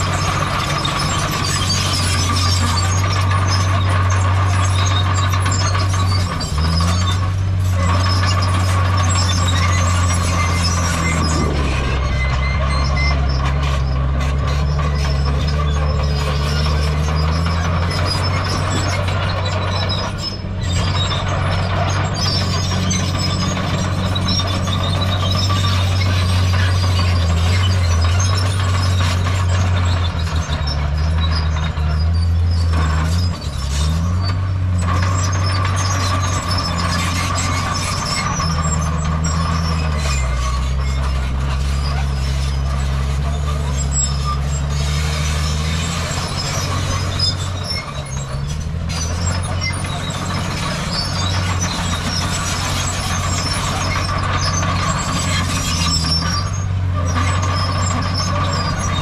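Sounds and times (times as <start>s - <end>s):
heavy machinery diesel engines: 0.0s - 59.0s.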